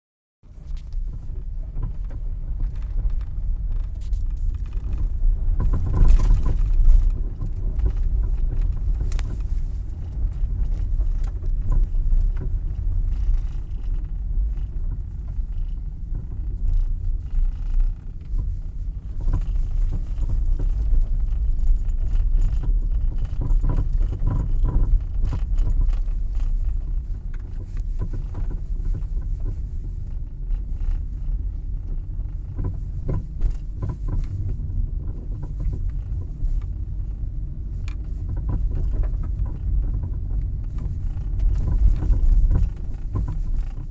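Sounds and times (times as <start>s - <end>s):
car driving low rumble: 0.4s - 43.9s.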